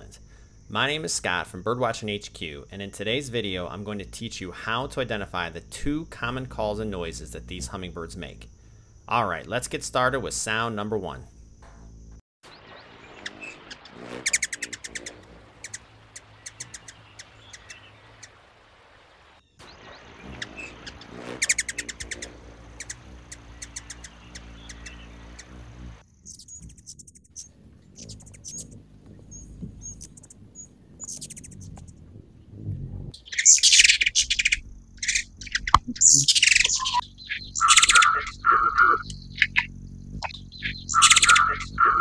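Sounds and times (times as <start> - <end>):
hummingbirds twittering chirps: 0.0 - 42.0.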